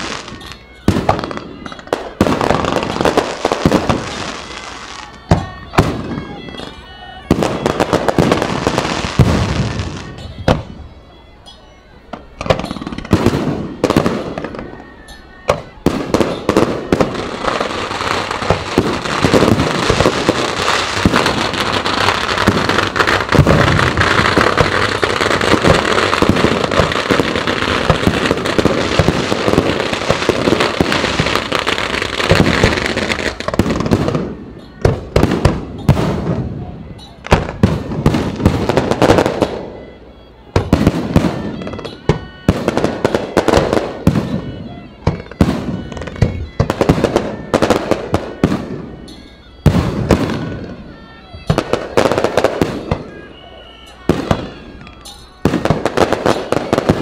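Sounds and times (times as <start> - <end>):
firework bangs: 0.0 - 10.8, 12.1 - 39.8, 40.5 - 57.0
firework crackling: 0.0 - 10.8, 12.2 - 57.0.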